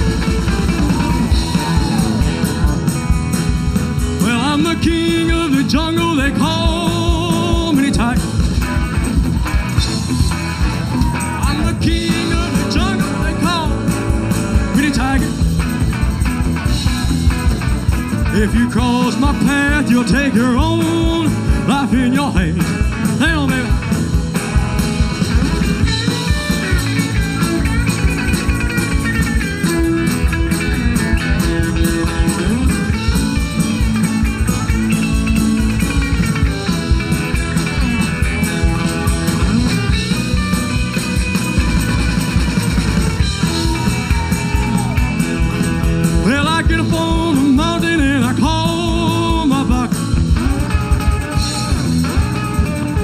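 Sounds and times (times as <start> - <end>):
bass guitar: 0.0 - 53.0
drum kit steady beat: 0.0 - 53.0
electric guitar lead: 0.0 - 53.0.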